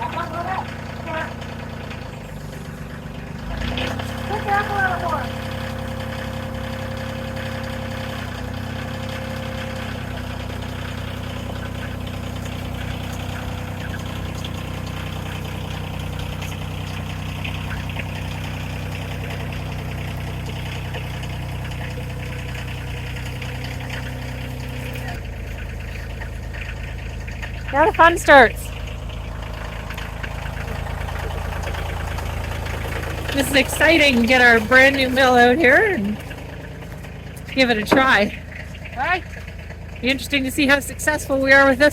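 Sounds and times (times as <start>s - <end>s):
machine engine idling: 0.0s - 41.9s.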